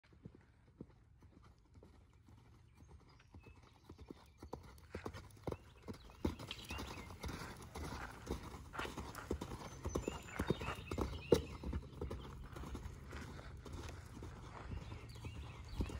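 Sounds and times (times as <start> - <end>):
horse hoofbeats on sand: 0.2 - 15.9.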